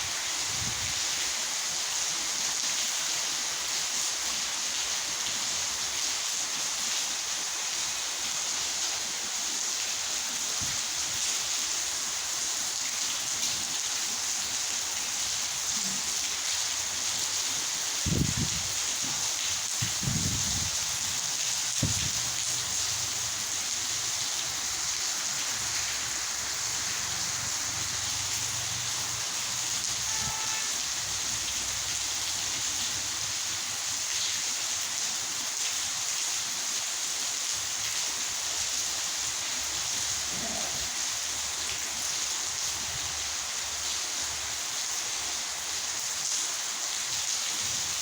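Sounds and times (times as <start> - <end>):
torrential rain hissing: 0.0 - 48.0.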